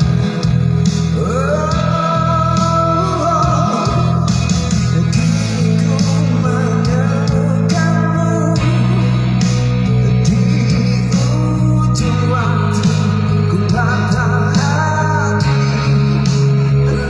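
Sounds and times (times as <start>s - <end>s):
guitar and bass accompaniment: 0.0s - 17.0s
man singing: 0.0s - 17.0s.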